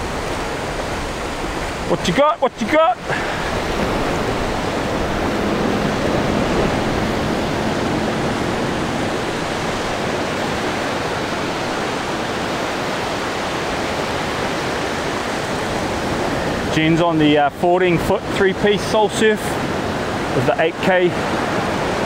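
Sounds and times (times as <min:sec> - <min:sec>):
ocean surf breaking on sand: 0:00.0 - 0:22.0.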